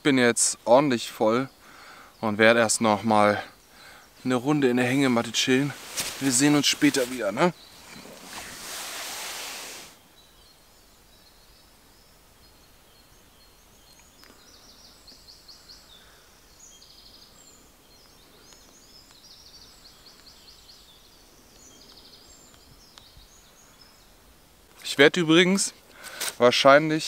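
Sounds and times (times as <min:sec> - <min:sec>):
soft background hiss: 0:00.0 - 0:27.0
songbirds trilling and chirping: 0:00.0 - 0:27.0.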